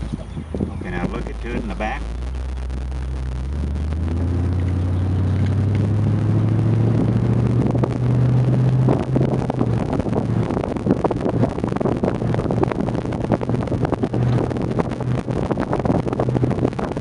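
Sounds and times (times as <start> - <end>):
car engine accelerating: 0.0 - 17.0
wind buffeting: 0.0 - 17.0.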